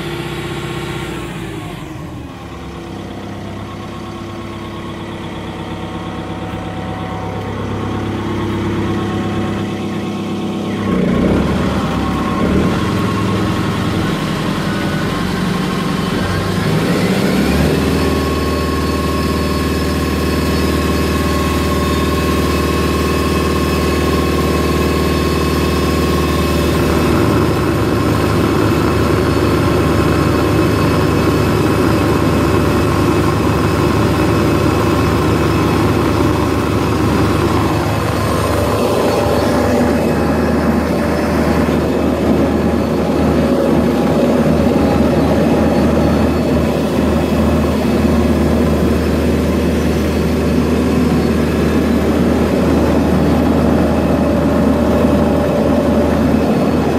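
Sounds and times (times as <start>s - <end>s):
diesel engine drone: 0.0s - 56.9s.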